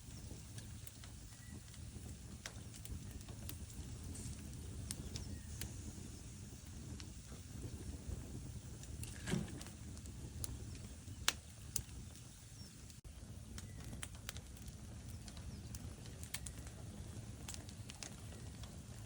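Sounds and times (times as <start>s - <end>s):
fire crackling and popping: 0.0s - 19.0s
low rumble of burning logs: 0.0s - 19.0s.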